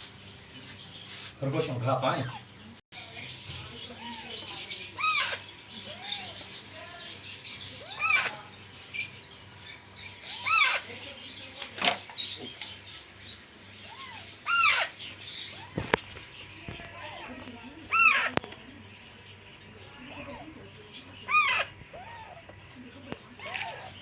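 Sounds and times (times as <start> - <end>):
parrot chicks squawking: 0.1 - 24.0.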